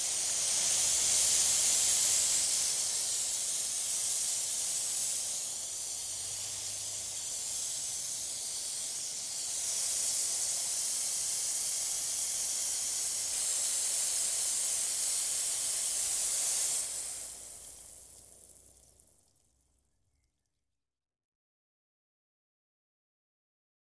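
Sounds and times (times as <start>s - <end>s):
water spraying from garden hose: 0.0s - 19.8s.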